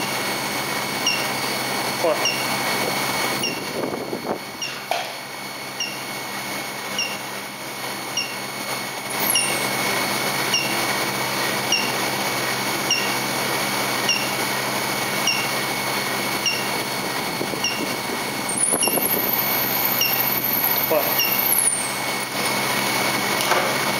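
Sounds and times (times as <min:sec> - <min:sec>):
high-pitched whine: 0:00.0 - 0:22.5
induction heater humming: 0:00.0 - 0:23.9.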